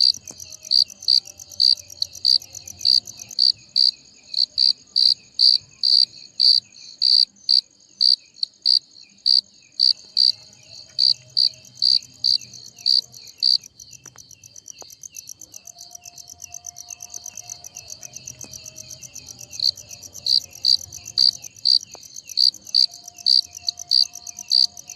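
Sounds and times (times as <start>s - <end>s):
crickets chirping: 0.0s - 24.9s
insects trilling: 0.0s - 24.9s.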